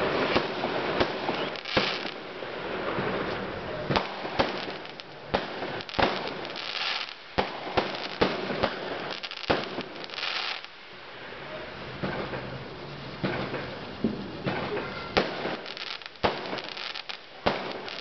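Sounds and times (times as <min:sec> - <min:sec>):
fireworks bangs: 0:00.0 - 0:18.0
fireworks hissing crackle: 0:00.0 - 0:18.0.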